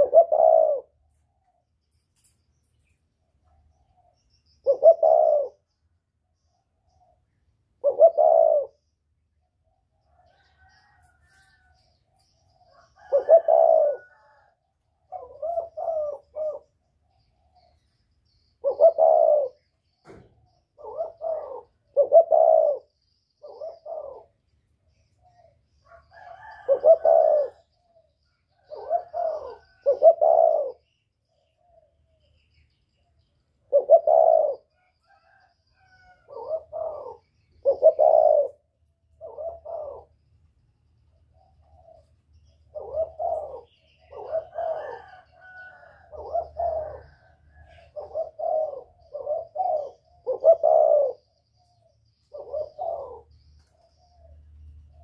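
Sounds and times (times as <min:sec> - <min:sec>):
dove cooing: 0:00.0 - 0:02.3, 0:03.2 - 0:32.4, 0:33.0 - 0:40.2, 0:41.1 - 0:55.0.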